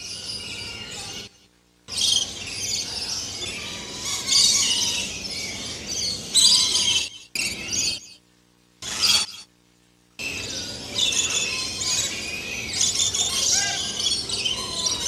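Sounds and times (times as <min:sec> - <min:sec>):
lorikeets chattering and screeching: 0:00.0 - 0:08.2, 0:08.8 - 0:09.5, 0:10.2 - 0:15.0.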